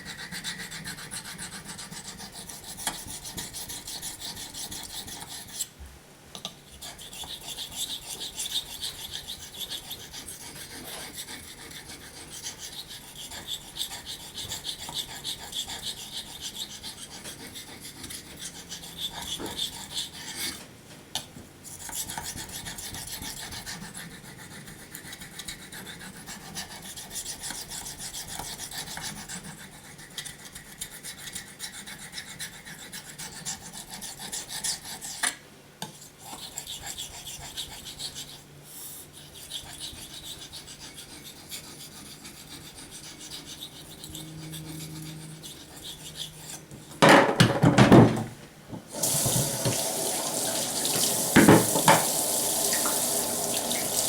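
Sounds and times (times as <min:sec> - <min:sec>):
knife scraping on whetstone: 0:00.0 - 0:05.7, 0:06.7 - 0:20.6, 0:21.7 - 0:47.0.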